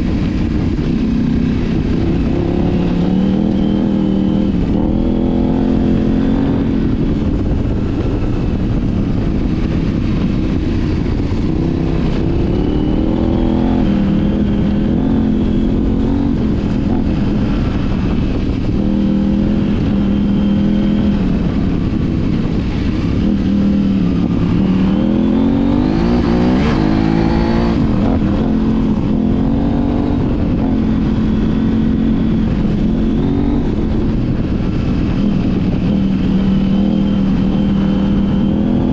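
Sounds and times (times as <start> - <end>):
motorcycle engine revving: 0.0 - 38.9
wind: 0.0 - 38.9.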